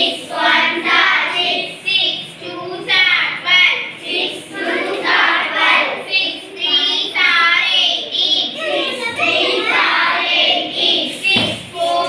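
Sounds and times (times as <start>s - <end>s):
children chanting in unison: 0.0s - 12.0s.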